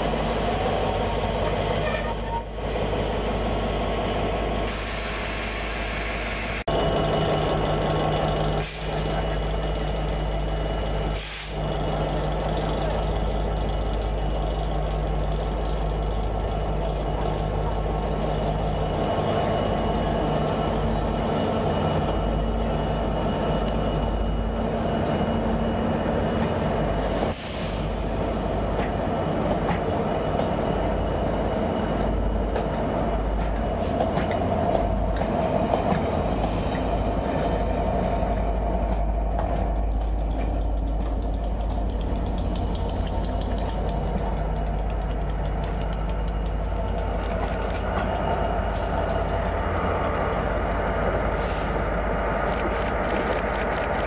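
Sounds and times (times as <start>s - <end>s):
diesel locomotives running: 0.0s - 54.0s
rail and wheel noise: 0.0s - 54.0s.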